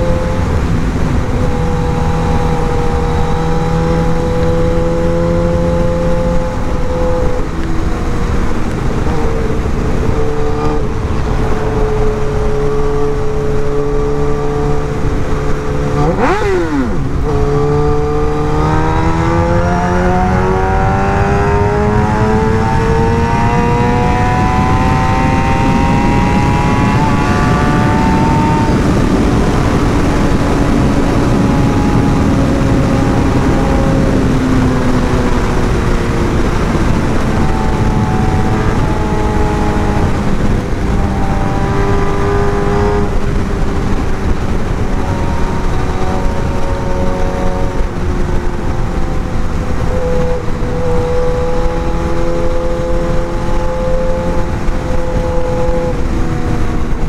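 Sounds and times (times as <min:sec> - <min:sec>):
motorcycle engine at speed: 0:00.0 - 0:57.0
wind rushing: 0:00.0 - 0:57.0.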